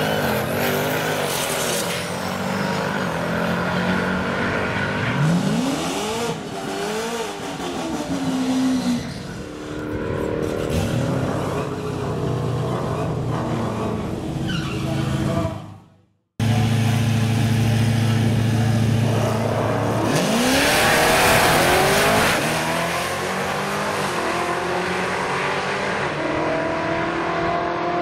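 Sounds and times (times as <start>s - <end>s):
drag car engines revving: 0.0s - 15.8s, 16.4s - 28.0s.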